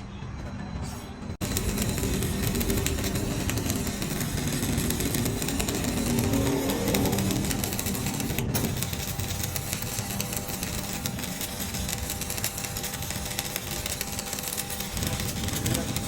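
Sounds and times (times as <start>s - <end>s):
vehicle engine running roughly: 1.4s - 16.0s.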